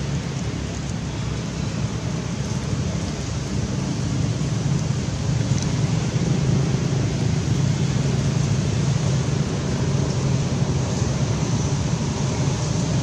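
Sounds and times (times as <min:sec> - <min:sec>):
hiss: 0:00.0 - 0:13.0
low rumbling noise: 0:00.0 - 0:13.0.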